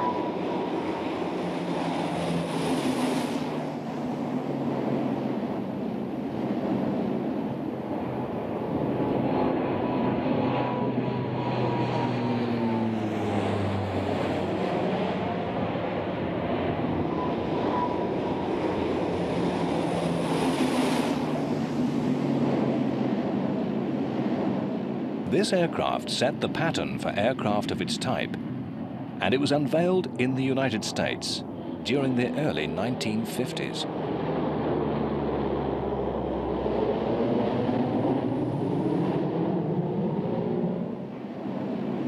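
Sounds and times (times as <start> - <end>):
turboprop aircraft droning overhead: 0.0 - 42.0.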